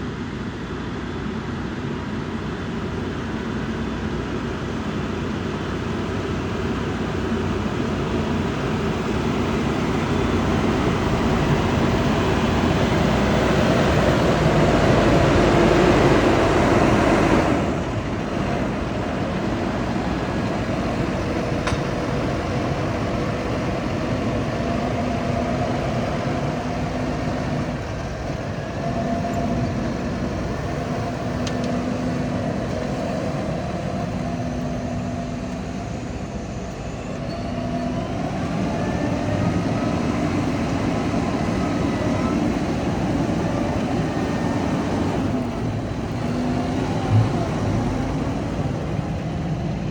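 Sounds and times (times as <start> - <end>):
faint engine hum: 0.0 - 49.9
heavy machinery rumbling: 0.1 - 49.9.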